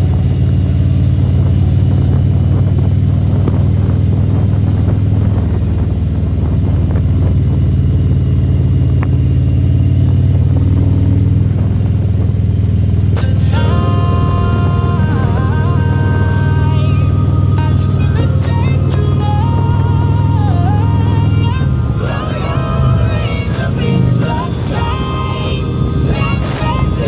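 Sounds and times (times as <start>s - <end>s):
motorcycle engine drone: 0.0s - 27.0s.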